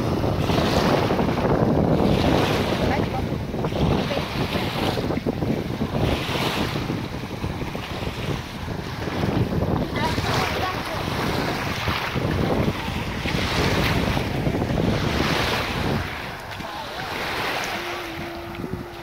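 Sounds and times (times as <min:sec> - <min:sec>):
small waves breaking on shore: 0:00.0 - 0:19.0
wind buffeting microphone: 0:00.0 - 0:19.0.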